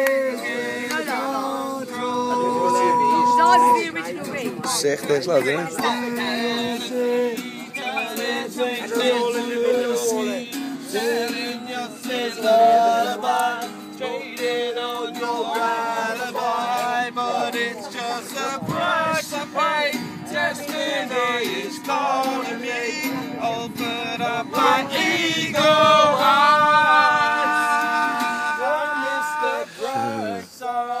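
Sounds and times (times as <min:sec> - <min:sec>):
man singing: 0:00.0 - 0:03.8, 0:04.6 - 0:31.0
acoustic guitar strumming: 0:00.0 - 0:31.0.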